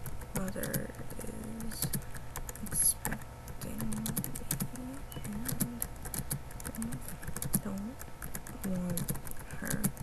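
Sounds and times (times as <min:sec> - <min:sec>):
keyboard typing: 0:00.0 - 0:10.0.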